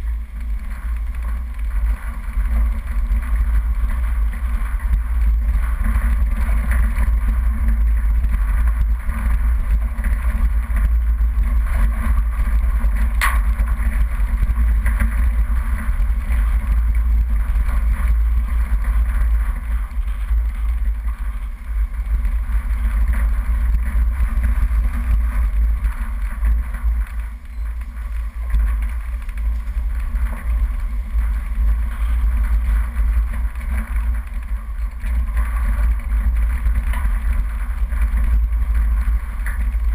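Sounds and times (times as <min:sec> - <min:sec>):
off-road vehicle engine rumble: 0:00.0 - 0:39.9
wind on microphone: 0:00.0 - 0:39.9.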